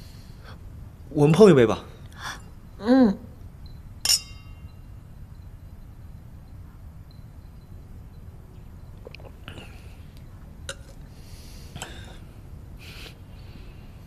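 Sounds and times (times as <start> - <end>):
low hum of room tone: 0.0 - 14.0.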